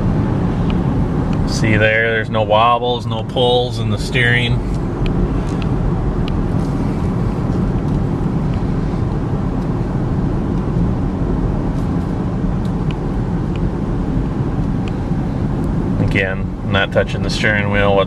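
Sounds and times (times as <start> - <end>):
car engine hum: 0.0 - 18.0
road and tyre noise: 0.0 - 18.0.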